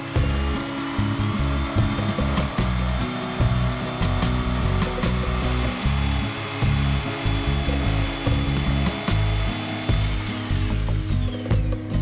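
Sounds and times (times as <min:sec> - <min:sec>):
electric jigsaw cutting wood: 0:00.0 - 0:11.7
background music: 0:00.0 - 0:12.0.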